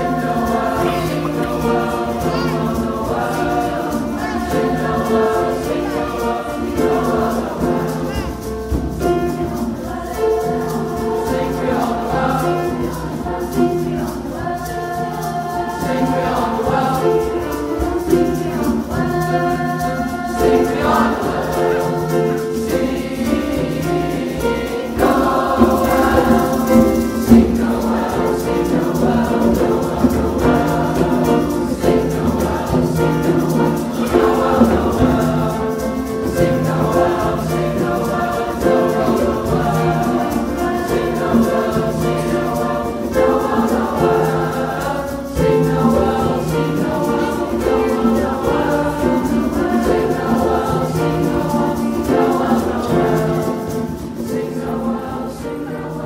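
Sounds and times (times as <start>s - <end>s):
youth choir singing: 0.0s - 56.0s.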